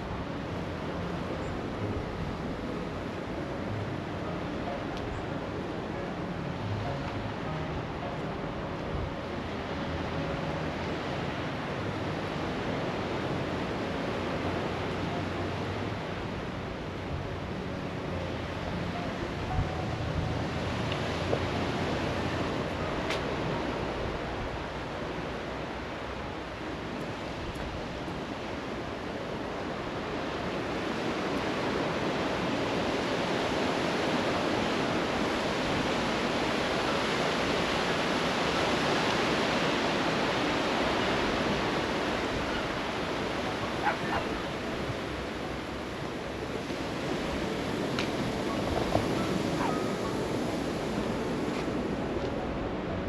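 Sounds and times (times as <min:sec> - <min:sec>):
sea surf washing on beach: 0:00.0 - 0:53.0.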